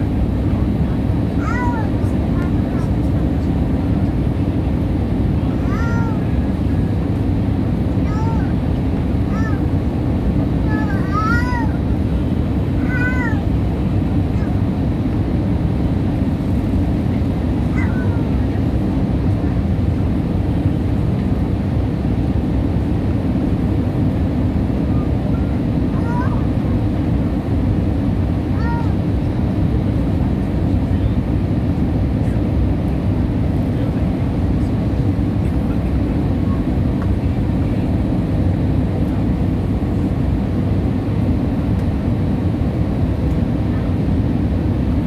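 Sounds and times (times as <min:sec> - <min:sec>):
jet cabin engine rumble: 0:00.0 - 0:45.0.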